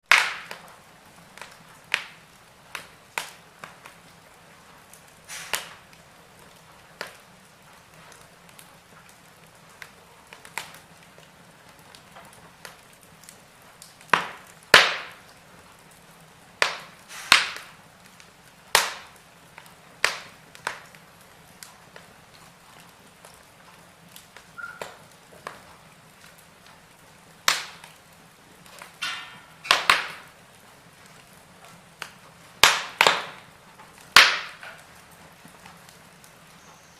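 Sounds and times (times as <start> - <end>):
wood fire crackling and popping: 0.0 - 36.9
faint steady hiss: 0.1 - 36.9.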